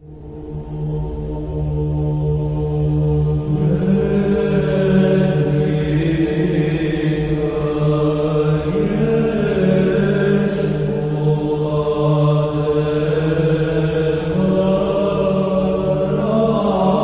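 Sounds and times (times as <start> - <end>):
steady low drone: 0.0 - 17.0
voices chanting long notes: 0.2 - 17.0.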